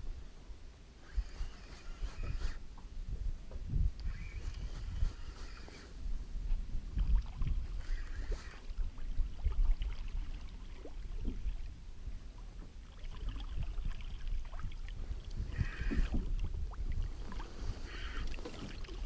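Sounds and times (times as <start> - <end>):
wind rumble on microphone: 0.0 - 19.0
water lapping against boat hull: 3.5 - 19.0.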